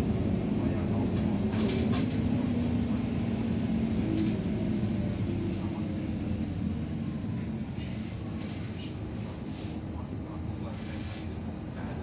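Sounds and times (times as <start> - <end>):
bus engine drone: 0.0 - 12.0
road rumble: 0.0 - 12.0.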